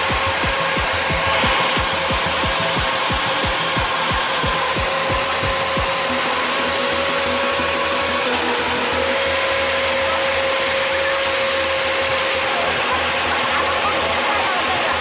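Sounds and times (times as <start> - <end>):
machine running with high whine: 0.0 - 15.0
noisy rush: 0.0 - 15.0.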